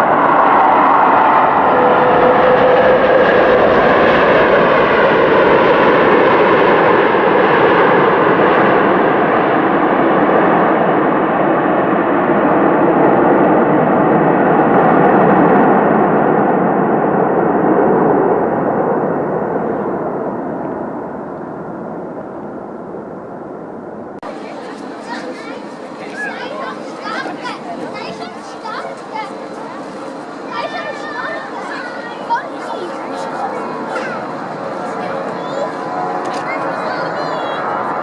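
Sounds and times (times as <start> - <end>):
airliner engines roaring: 0.0 - 38.0.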